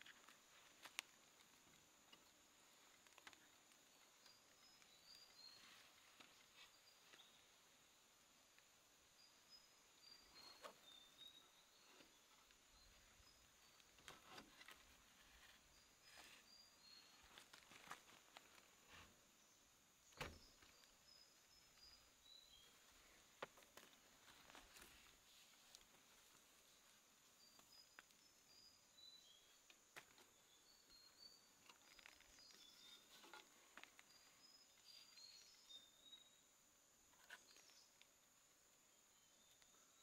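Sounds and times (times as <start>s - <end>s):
bird chirping: 1.8s - 8.0s, 9.0s - 38.1s.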